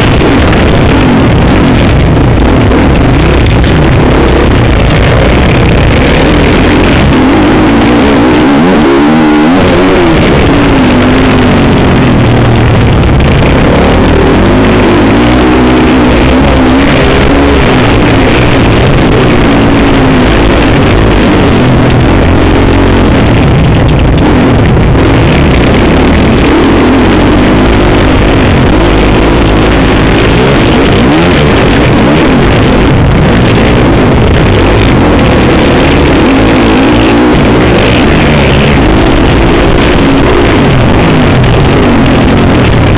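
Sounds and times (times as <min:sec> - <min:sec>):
dirt bike engine racing: 0:00.0 - 0:42.9.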